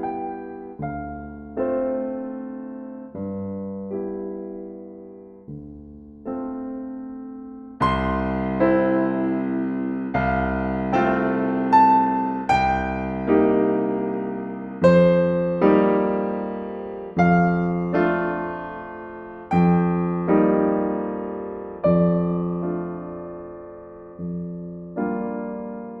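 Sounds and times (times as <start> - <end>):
slow solo piano music: 0.0 - 26.0.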